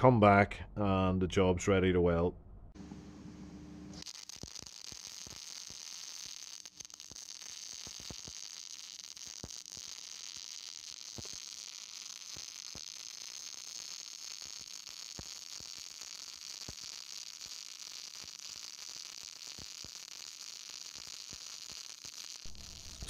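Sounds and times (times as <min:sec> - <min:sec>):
arc welding hiss and crackle: 0:04.0 - 0:23.0.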